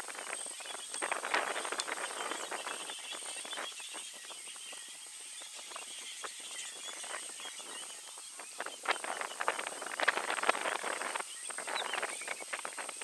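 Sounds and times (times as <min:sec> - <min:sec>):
crackling and rustling dry brush: 0:00.0 - 0:13.0
high insect whine: 0:00.0 - 0:13.0.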